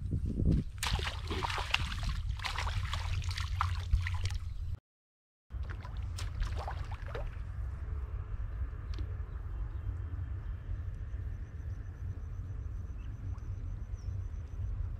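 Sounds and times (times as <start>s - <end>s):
low wind rumble on microphone: 0.0s - 4.8s, 5.6s - 14.9s.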